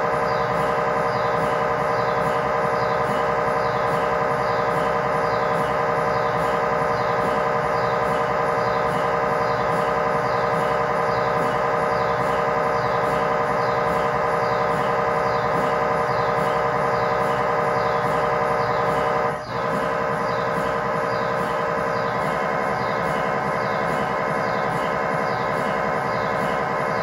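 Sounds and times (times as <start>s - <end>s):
mri scanner buzzing: 0.0s - 27.0s.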